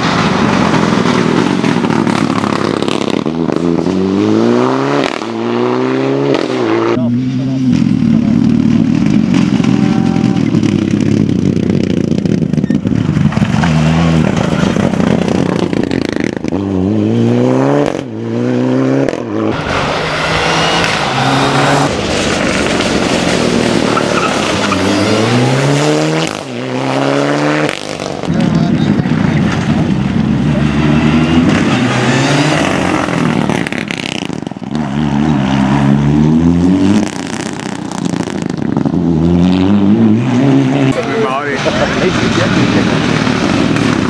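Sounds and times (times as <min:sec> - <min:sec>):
rally car engine accelerating hard: 0:00.0 - 0:44.0.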